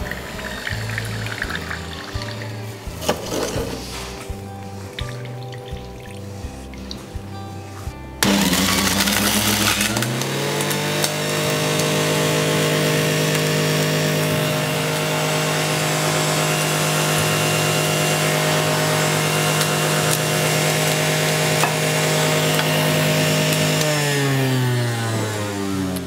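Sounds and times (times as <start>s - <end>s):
juicer motor hum: 0.0s - 4.3s, 8.2s - 26.0s.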